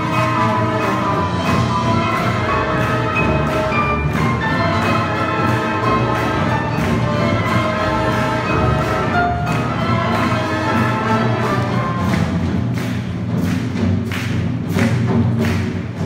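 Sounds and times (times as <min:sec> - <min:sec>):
steady drum beat: 0:00.0 - 0:16.0
wind band playing swing: 0:00.0 - 0:16.0.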